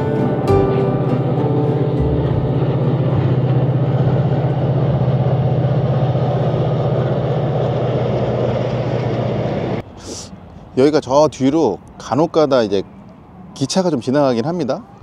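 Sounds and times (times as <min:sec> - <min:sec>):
distant train rumble: 0:00.0 - 0:15.0.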